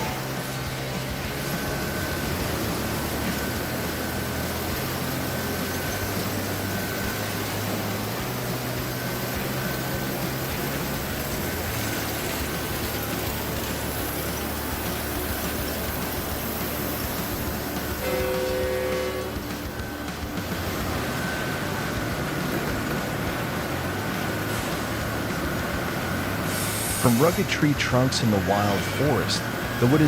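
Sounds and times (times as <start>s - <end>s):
sawmill machinery running: 0.0s - 30.0s.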